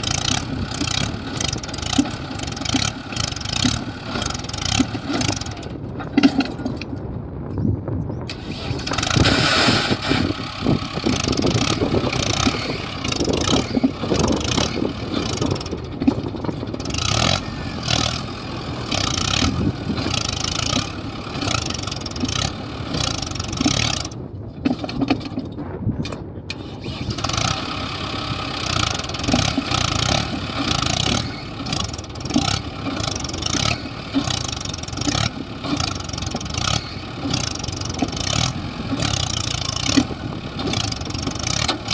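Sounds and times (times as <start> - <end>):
short knocks and clatter: 0.0 - 7.0, 8.3 - 27.8, 28.6 - 41.9
tractor diesel engines running: 0.0 - 41.9.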